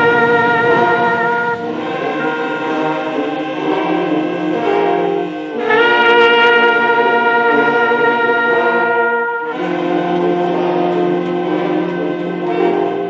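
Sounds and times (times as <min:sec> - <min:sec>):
brass instruments playing solemn chords: 0:00.0 - 0:13.0.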